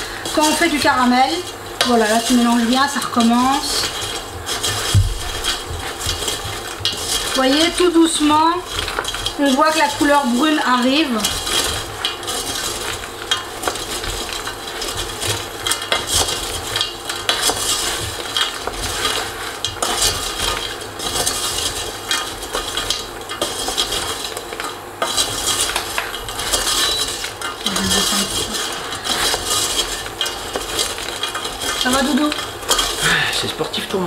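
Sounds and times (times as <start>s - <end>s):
spatula stirring nuts in a saucepan: 0.0s - 34.0s.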